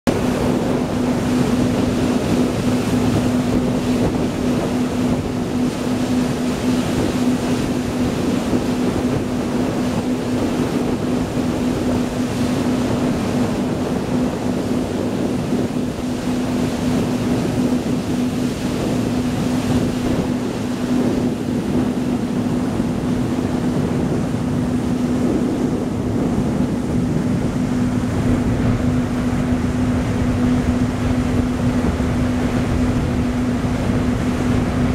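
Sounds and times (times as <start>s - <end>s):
ferry engine drone: 0.0s - 34.9s
water and wind rushing: 0.0s - 34.9s.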